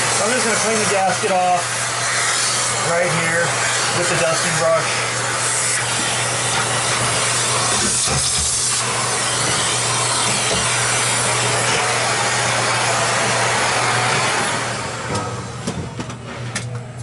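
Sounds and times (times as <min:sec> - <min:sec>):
brush rubbing and sucking dust: 0:00.0 - 0:14.4
vacuum cleaner humming: 0:00.0 - 0:16.8.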